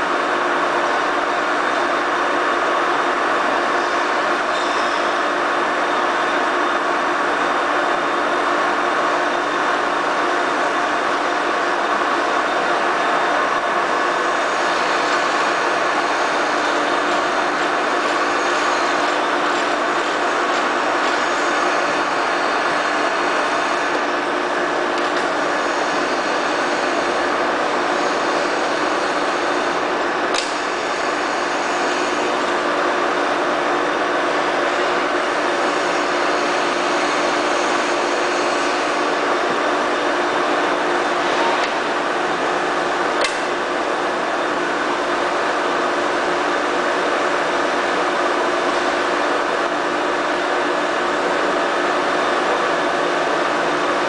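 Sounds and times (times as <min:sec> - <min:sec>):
lathe running with hum: 0:00.0 - 0:54.0.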